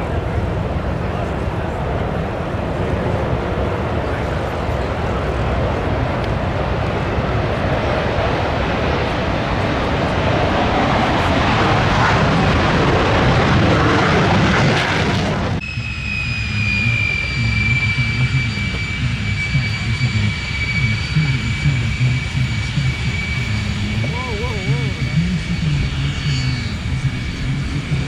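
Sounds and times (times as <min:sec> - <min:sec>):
aircraft engine roar: 0:00.0 - 0:28.0
high turbine whine: 0:00.0 - 0:28.0.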